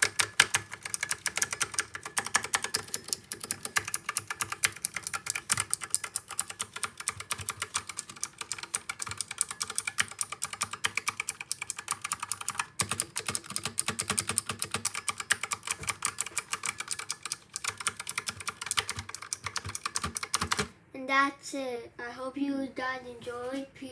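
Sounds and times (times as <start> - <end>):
fast mechanical keyboard typing: 0.0 - 20.7.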